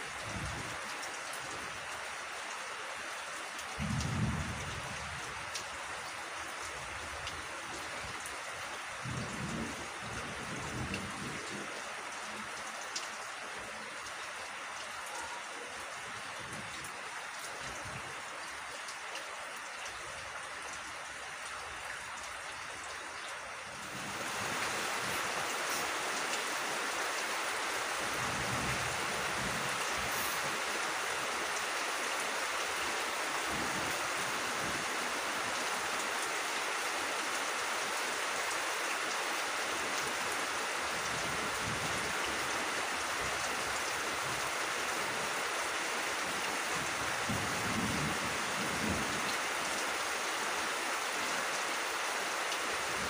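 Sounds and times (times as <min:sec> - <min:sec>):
rain on vegetation: 0:00.0 - 0:53.0.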